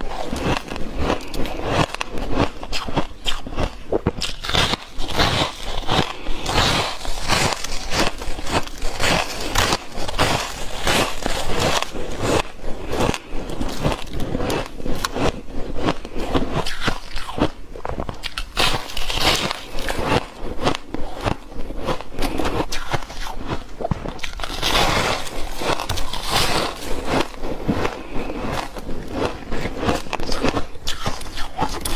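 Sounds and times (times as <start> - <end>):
person crunching ice: 0.0 - 31.9.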